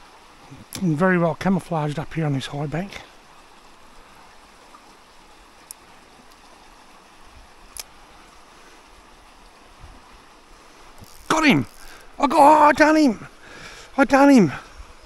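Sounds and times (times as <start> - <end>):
flowing creek water: 0.0 - 15.0.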